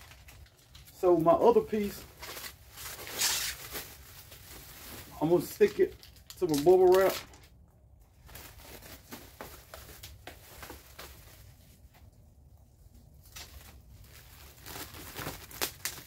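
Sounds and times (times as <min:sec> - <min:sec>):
bubble wrap crinkling: 0:00.0 - 0:12.2, 0:12.8 - 0:16.0.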